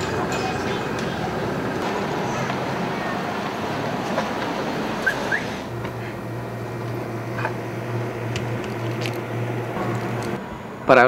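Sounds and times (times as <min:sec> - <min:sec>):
passing cars: 0:00.0 - 0:11.0
steady low hum: 0:00.0 - 0:11.0.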